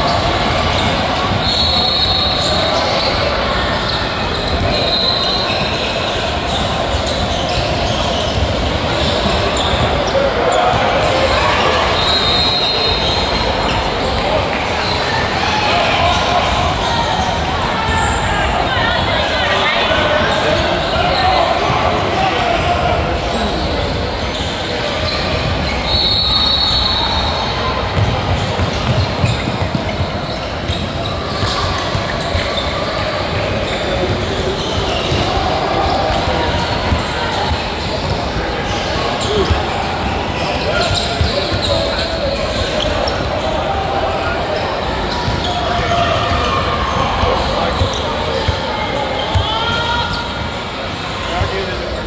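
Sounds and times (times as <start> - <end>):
din of crowd and players: 0.0 - 52.0
sneaker squeaks on court: 0.1 - 16.4, 23.2 - 43.6, 44.5 - 50.5.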